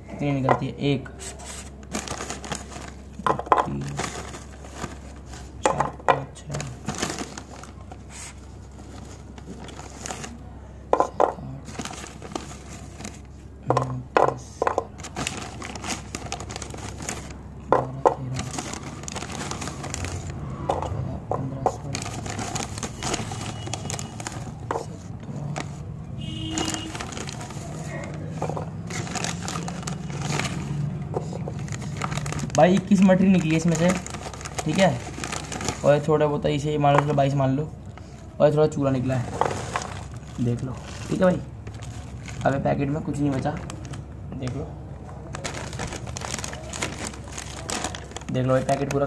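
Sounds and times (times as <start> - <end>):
low steady hum: 0.0 - 48.8
crackers shuffled on paper plate: 1.1 - 5.7, 6.5 - 10.4, 11.7 - 13.4, 14.9 - 17.4, 18.2 - 20.4, 21.4 - 25.8, 26.5 - 37.4, 38.9 - 44.6, 45.4 - 49.0
foil packet crinkling: 1.1 - 10.4, 11.4 - 14.0, 14.7 - 20.5, 21.4 - 49.0.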